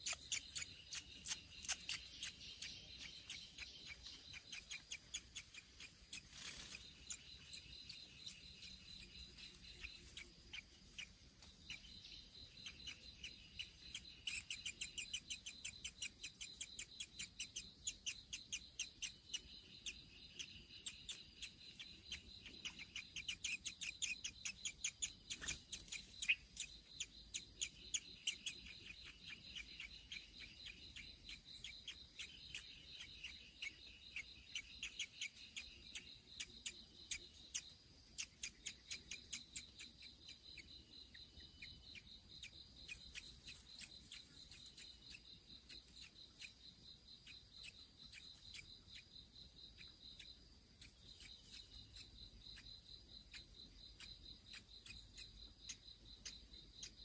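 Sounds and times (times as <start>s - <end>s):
rapid high chirps: 0.0s - 57.0s
steady high insect drone: 0.0s - 57.0s.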